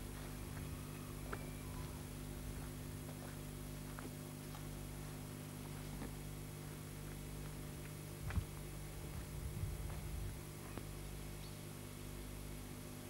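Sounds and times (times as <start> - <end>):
camcorder hum and hiss: 0.0 - 13.0.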